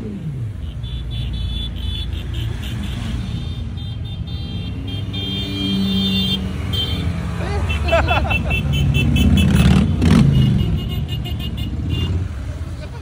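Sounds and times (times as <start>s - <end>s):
motorcycle engines rumbling: 0.0s - 13.0s.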